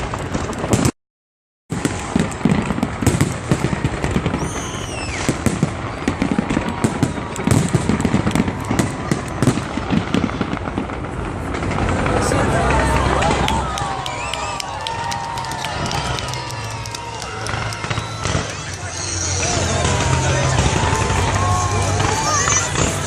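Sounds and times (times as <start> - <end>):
fireworks crackling and popping: 0.0 - 1.0, 1.7 - 23.0
firework whistle: 1.7 - 10.6, 12.0 - 23.0.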